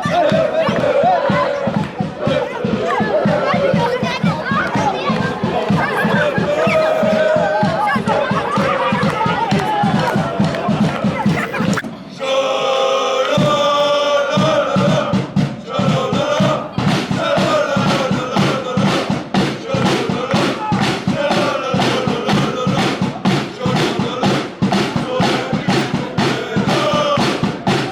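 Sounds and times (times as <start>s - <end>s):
drum beating a steady rhythm: 0.0s - 12.0s, 13.4s - 27.9s
crowd chanting a song: 0.0s - 27.9s.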